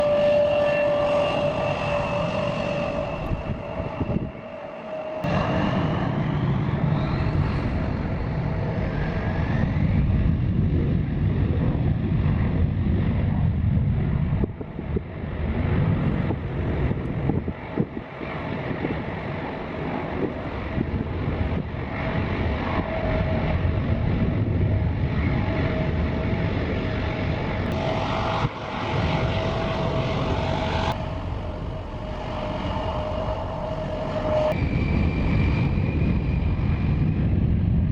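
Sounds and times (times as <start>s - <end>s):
aircraft engines at takeoff: 0.0s - 37.9s.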